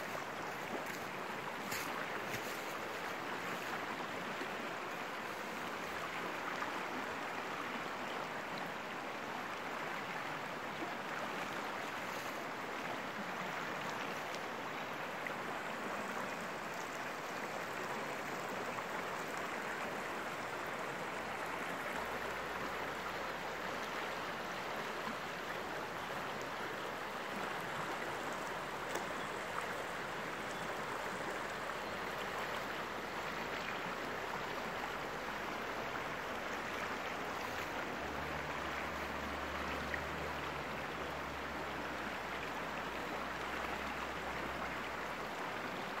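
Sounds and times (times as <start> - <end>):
river rushing over rocks: 0.0 - 46.0.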